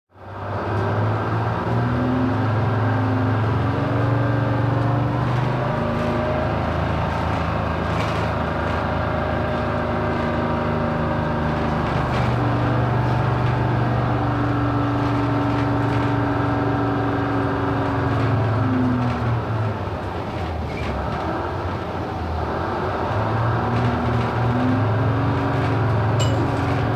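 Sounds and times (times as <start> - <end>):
bus engine running: 0.1 - 26.9.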